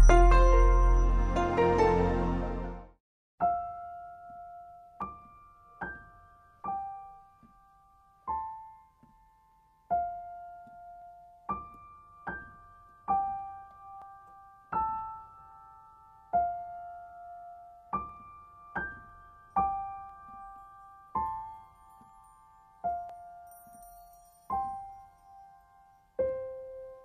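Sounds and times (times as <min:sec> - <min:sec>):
slow gentle piano: 0:00.0 - 0:27.0.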